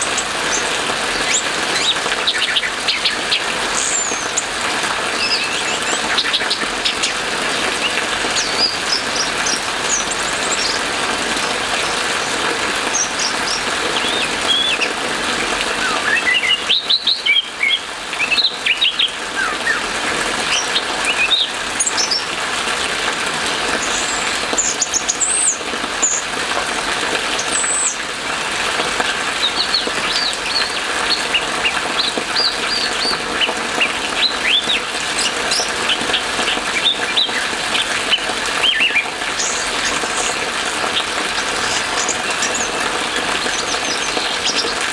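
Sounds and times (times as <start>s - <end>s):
rain hissing: 0.0s - 44.9s.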